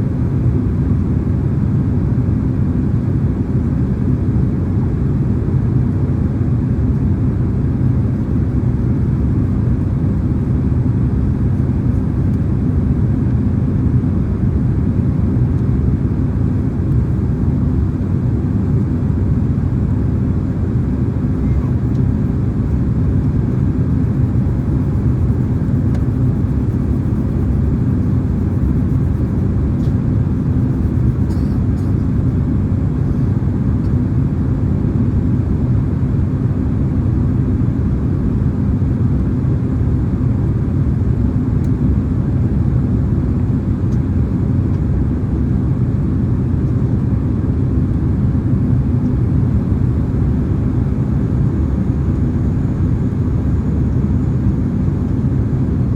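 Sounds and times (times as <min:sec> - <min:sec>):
airplane cabin engine rush: 0:00.0 - 0:55.9.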